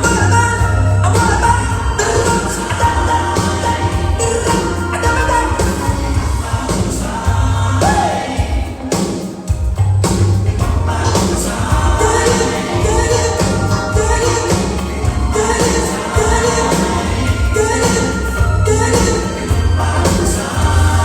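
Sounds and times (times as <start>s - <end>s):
strong bass line: 0.0s - 8.1s, 9.8s - 21.0s
pop band playing with singing: 0.0s - 21.0s.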